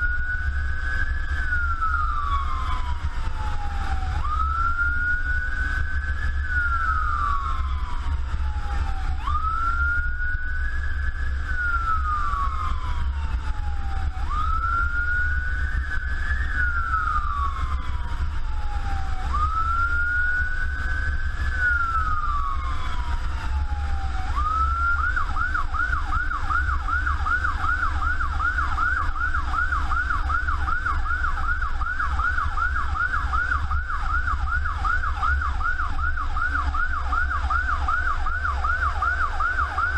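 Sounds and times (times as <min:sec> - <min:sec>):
electronic siren wailing and yelping: 0:00.0 - 0:10.4, 0:11.4 - 0:39.9
engine and road rumble: 0:00.0 - 0:39.9.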